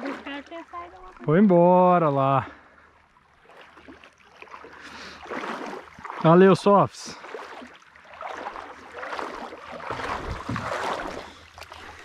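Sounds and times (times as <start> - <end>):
shallow water sloshing and splashing: 0.0 - 12.0.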